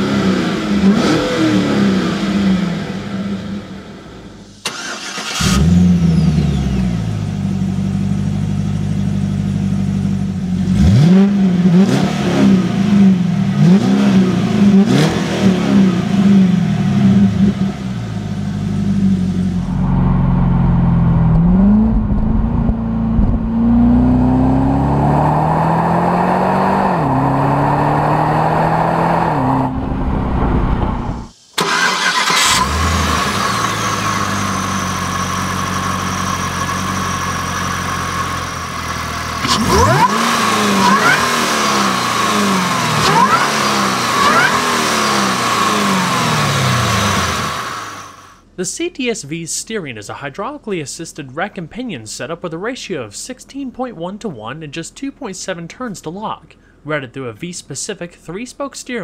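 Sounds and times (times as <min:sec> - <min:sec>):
car engine idling and revving: 0:00.0 - 0:48.5.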